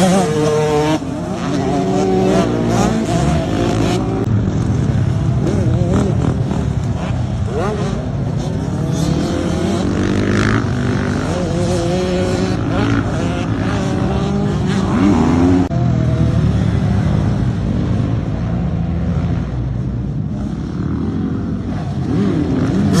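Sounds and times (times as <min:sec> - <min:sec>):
motorbike engines revving: 0:00.0 - 0:23.0.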